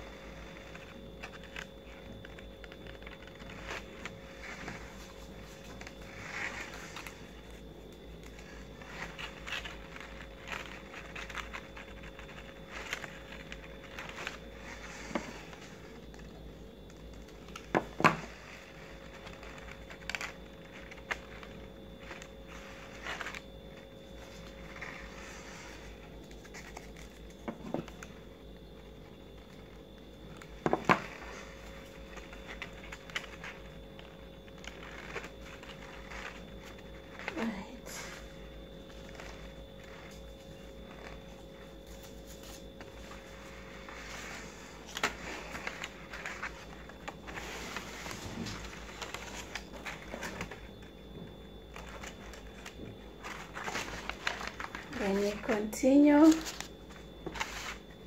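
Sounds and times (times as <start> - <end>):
faint steady hum: 0.0 - 58.0
paper rustling and crinkling: 0.0 - 58.0.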